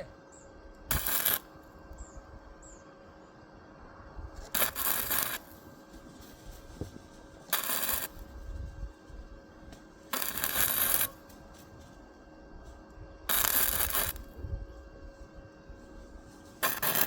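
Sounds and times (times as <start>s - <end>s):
arc welding crackling: 0.0s - 2.6s, 4.3s - 17.0s.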